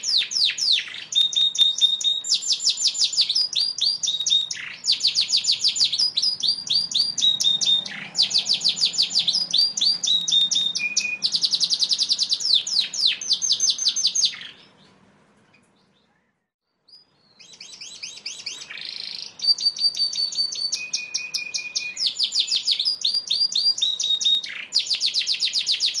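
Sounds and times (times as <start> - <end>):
canary singing fast trills: 0.0 - 26.0.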